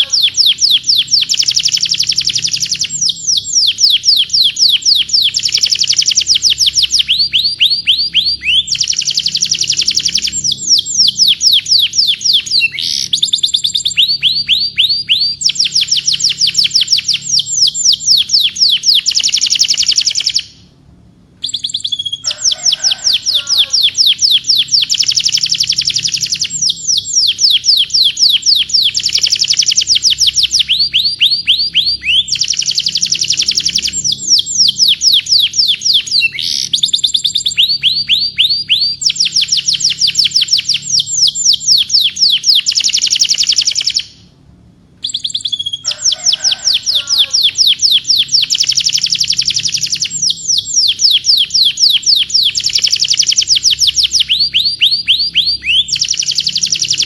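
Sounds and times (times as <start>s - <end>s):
canary singing trills: 0.0s - 20.7s, 21.4s - 44.3s, 45.0s - 57.0s.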